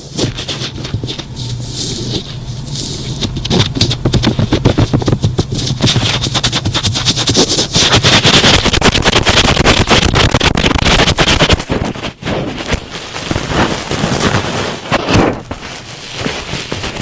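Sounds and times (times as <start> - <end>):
cotton swab crackling on microphone: 0.0 - 17.0.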